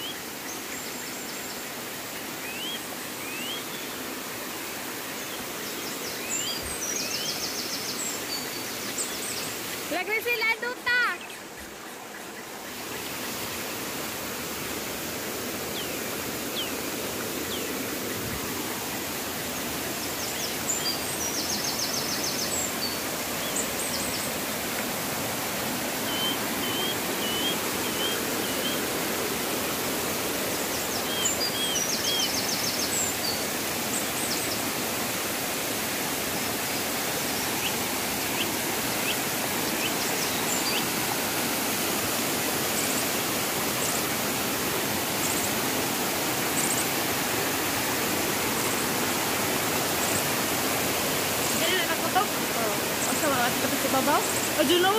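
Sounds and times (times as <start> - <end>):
small birds chirping: 0.0 - 14.0, 14.7 - 47.6, 48.2 - 54.9
stream cascading over rocks: 0.0 - 54.9
waterfall rushing: 0.0 - 54.9.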